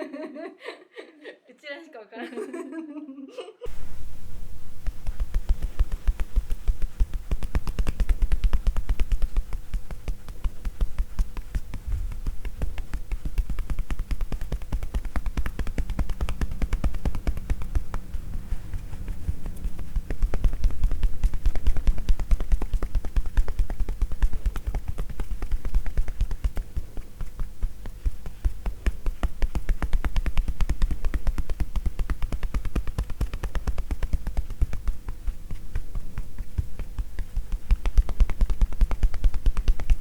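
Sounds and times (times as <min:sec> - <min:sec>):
hands tapping on body: 0:04.6 - 0:40.0.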